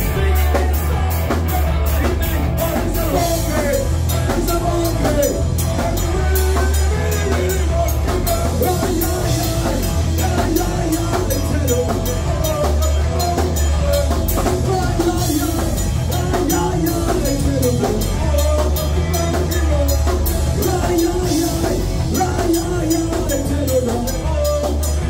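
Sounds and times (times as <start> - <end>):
drum kit steady beat: 0.0 - 25.0
electric guitars: 0.0 - 25.0.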